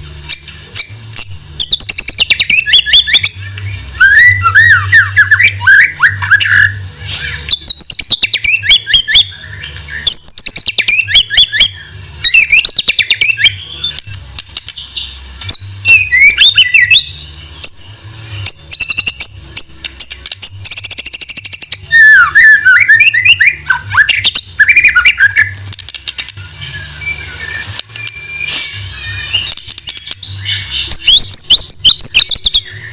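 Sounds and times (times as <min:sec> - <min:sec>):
high-pitched hiss: 0:00.0 - 0:32.9
bird clicking trills and chatter: 0:00.2 - 0:32.9
bird singing whistled phrases: 0:00.3 - 0:14.1, 0:15.0 - 0:17.8, 0:18.4 - 0:25.8, 0:26.5 - 0:32.9.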